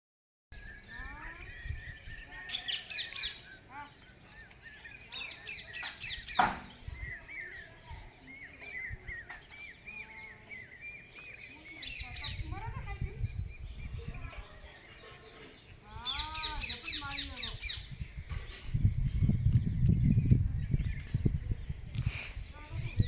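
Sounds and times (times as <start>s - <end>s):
birds chirping: 0.6s - 23.0s.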